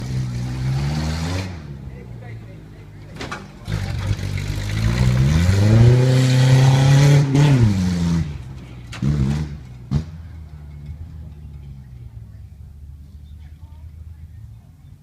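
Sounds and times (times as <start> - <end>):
truck engine revving: 0.0 - 13.4.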